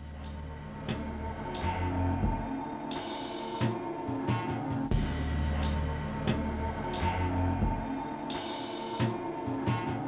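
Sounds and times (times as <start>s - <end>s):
sustained low musical tones: 0.0s - 10.0s.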